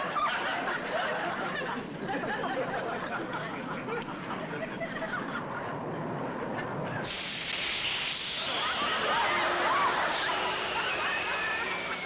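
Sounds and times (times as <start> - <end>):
audience laughter: 0.0 - 7.0, 8.3 - 12.0.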